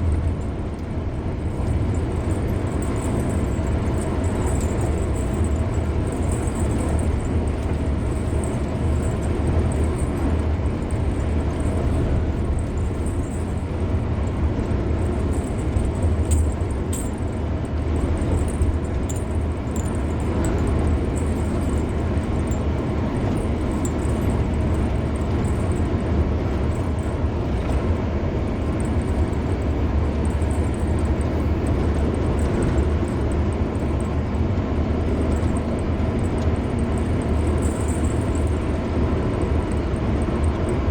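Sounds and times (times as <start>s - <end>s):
tyre and road noise: 0.0s - 40.9s.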